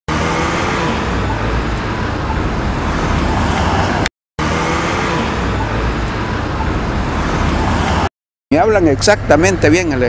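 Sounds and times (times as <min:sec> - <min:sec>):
passing cars rumble: 0:00.1 - 0:10.0.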